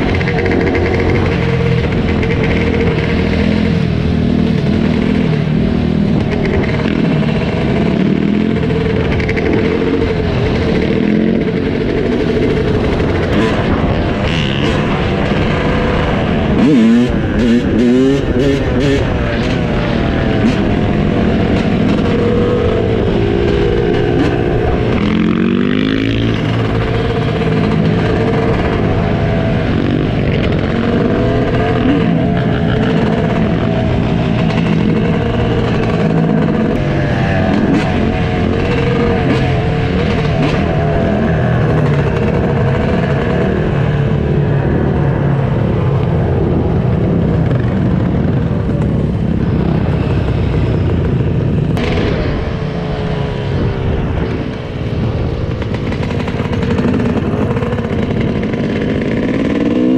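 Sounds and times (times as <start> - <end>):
dirt bike engine revving: 0.0 - 59.9
other off-road engines: 0.0 - 59.9.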